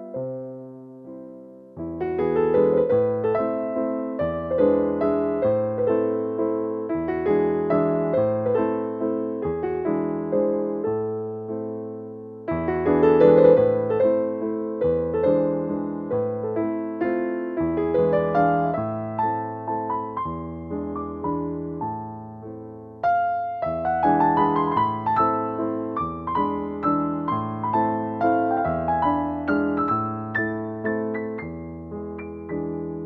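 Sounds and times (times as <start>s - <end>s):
gentle piano melody: 0.0s - 33.0s.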